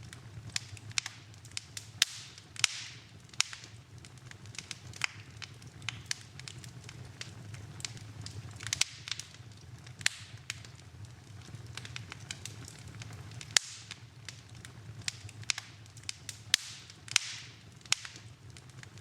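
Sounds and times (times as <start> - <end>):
low steady rumble: 0.0 - 19.0
wood fire crackling and popping: 0.0 - 19.0.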